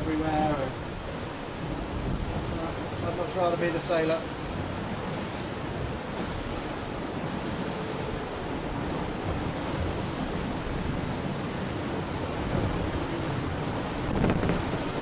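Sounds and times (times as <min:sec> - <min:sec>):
water and wind rushing past hull: 0:00.0 - 0:15.0.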